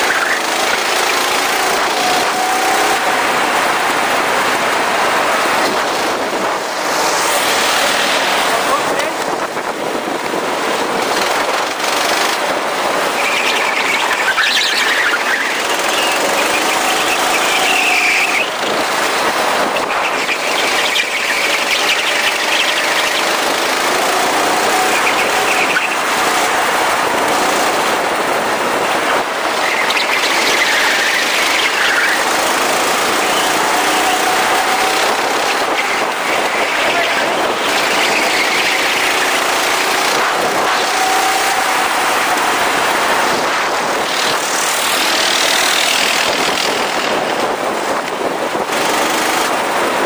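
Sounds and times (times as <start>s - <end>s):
go-kart engines droning: 0.0s - 50.0s
kart tyres squealing: 0.0s - 50.0s.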